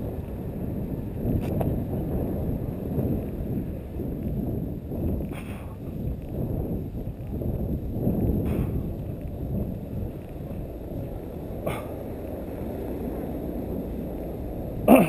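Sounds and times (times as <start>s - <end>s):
wind and handling noise: 0.0s - 15.0s.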